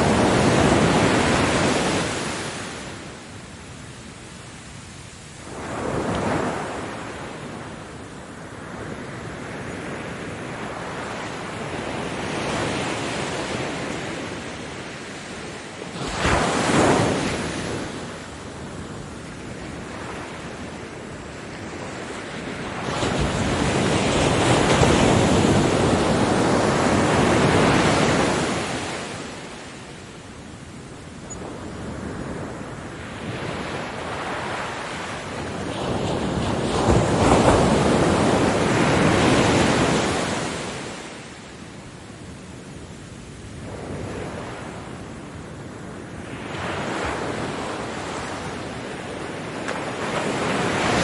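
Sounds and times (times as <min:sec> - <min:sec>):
ocean waves breaking: 0:00.0 - 0:41.6, 0:46.0 - 0:51.0.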